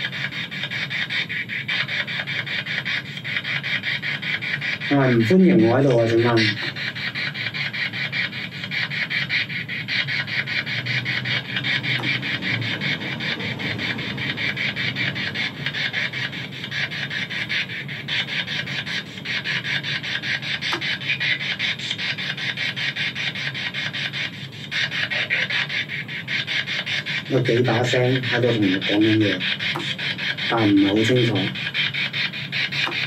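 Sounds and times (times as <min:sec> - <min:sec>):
radio static chopping rasp: 0:00.0 - 0:33.0.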